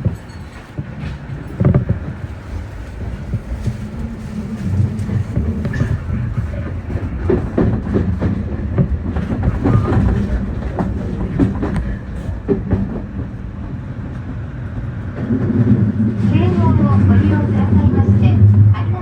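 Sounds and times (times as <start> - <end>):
wheels clacking over rail joints: 0.0 - 18.1
train running gear rumble: 0.0 - 19.0.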